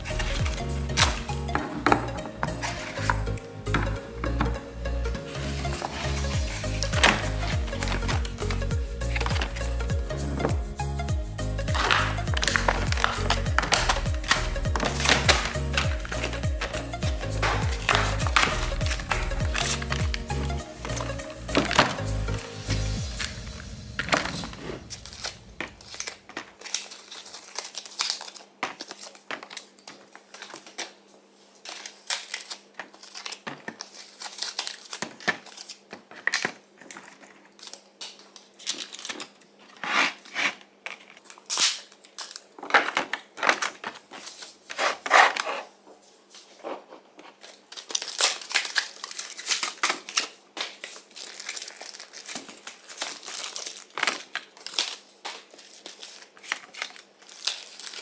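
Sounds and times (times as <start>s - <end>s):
cardboard crinkling and tearing: 0.0s - 4.0s, 5.2s - 9.9s, 11.7s - 58.0s.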